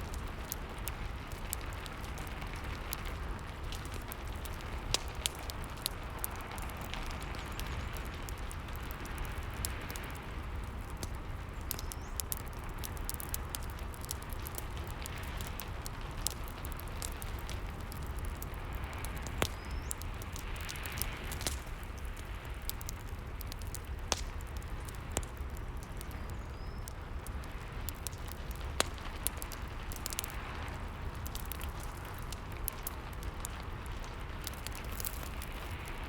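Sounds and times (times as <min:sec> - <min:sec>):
fireplace crackling: 0:00.0 - 0:36.0.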